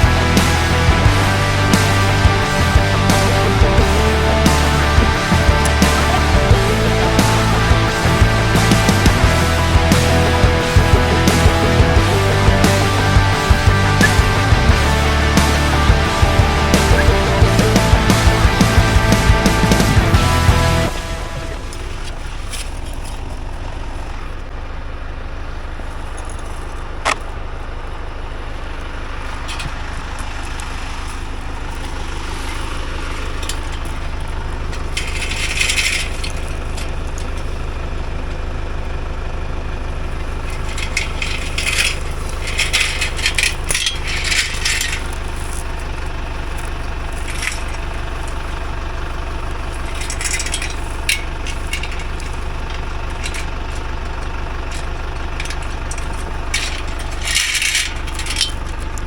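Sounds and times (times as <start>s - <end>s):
clinks and rattles: 0.0s - 24.5s, 29.3s - 59.0s
tractor engine humming: 0.0s - 59.0s.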